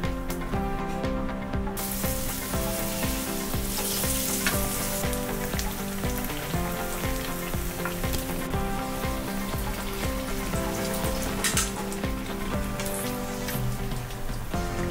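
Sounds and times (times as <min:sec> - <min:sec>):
background music with steady beat: 0:00.0 - 0:14.9
hot oil sizzling: 0:01.8 - 0:14.9.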